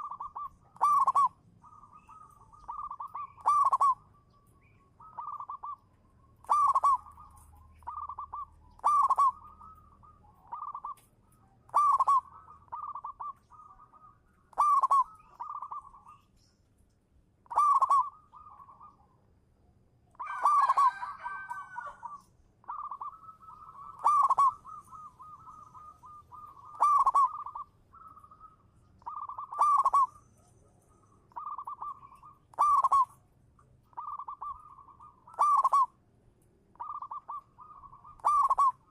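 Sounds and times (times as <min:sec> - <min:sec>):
dove cooing song: 0:00.0 - 0:16.5, 0:17.4 - 0:19.3, 0:20.1 - 0:36.0, 0:36.7 - 0:38.9.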